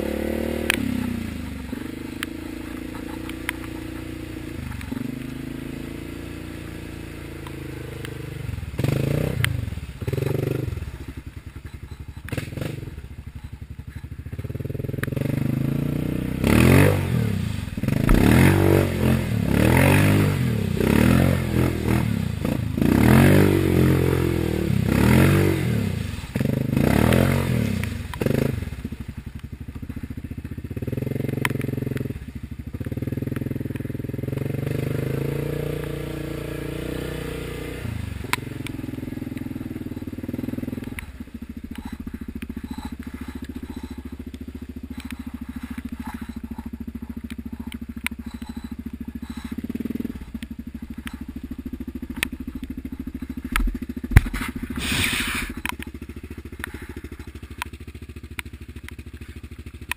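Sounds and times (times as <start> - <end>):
atv engine revving under load: 0.0 - 59.9.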